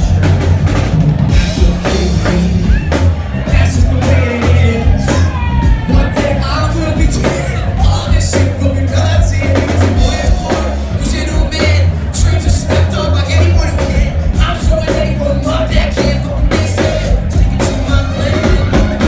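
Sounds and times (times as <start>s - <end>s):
bass: 0.0s - 19.0s
drum kit: 0.0s - 19.0s
person singing: 1.4s - 19.0s.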